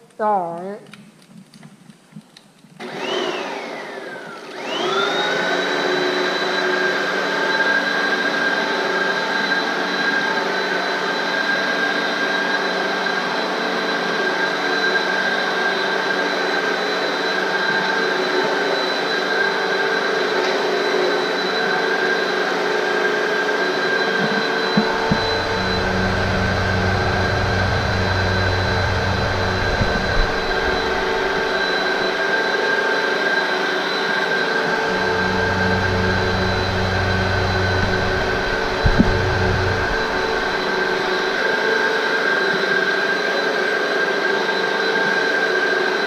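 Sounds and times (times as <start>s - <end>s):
vacuum cleaner motor whine: 2.8s - 46.0s.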